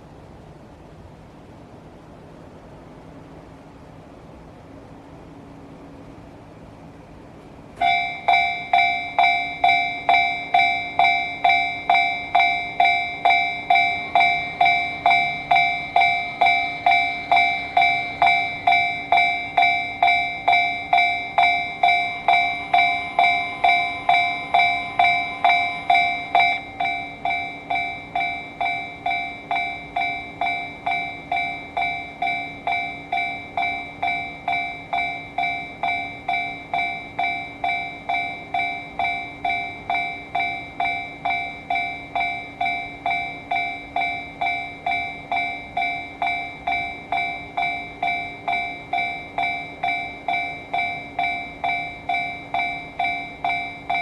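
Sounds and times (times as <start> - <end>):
level crossing warning bell: 7.8 - 54.0.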